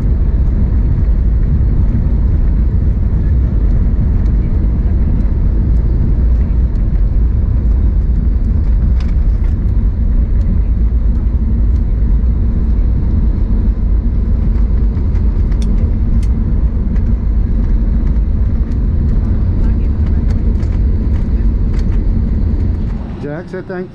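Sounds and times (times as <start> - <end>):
low rumble of engines and wheels: 0.0 - 23.9.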